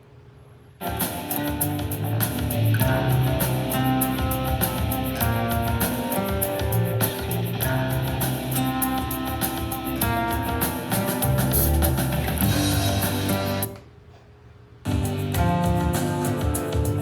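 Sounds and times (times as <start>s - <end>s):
rock music from portable speaker: 0.8s - 13.8s, 14.9s - 17.0s.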